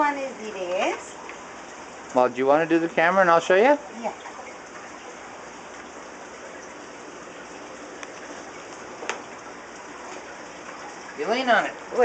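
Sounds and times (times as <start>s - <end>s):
running splashing water: 0.0s - 12.0s.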